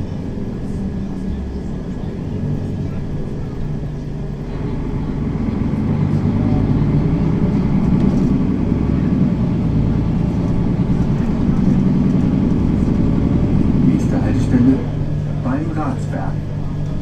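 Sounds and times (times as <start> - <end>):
bus engine drone from inside: 0.0 - 17.0.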